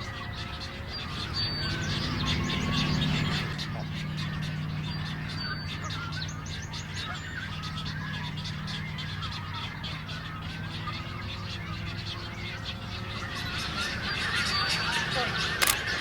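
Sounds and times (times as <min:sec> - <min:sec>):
birds squawking and croaking: 0:00.0 - 0:16.0
steady low hum: 0:00.0 - 0:16.0.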